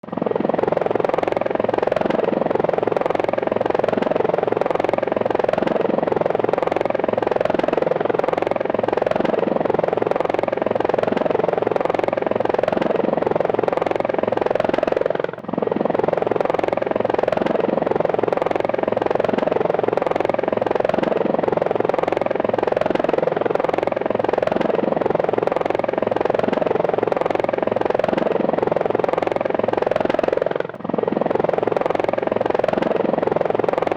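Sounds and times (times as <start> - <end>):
helicopter rotor beating: 0.0 - 33.9.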